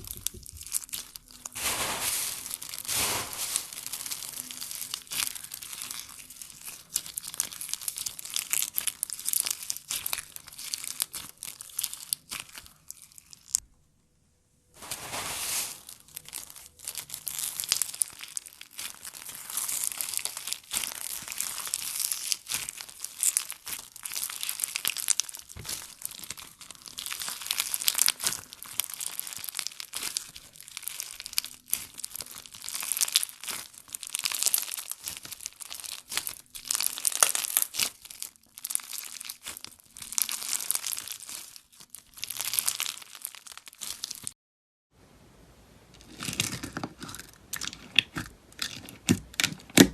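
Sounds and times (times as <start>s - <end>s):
slime crackling and popping: 0.0s - 13.6s, 14.8s - 44.4s.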